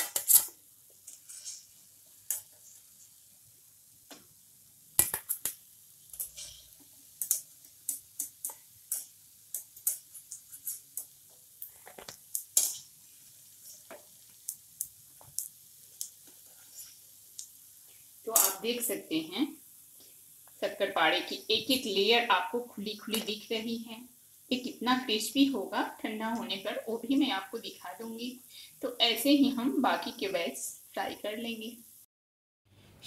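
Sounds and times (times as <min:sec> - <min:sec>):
oil sizzling: 0:00.0 - 0:32.1.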